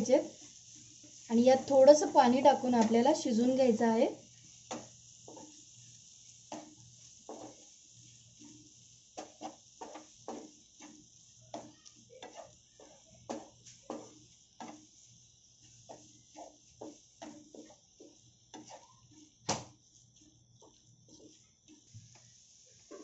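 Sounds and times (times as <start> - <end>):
faint sizzle: 0.0 - 23.0
wooden spatula scraping a pan: 0.0 - 23.0.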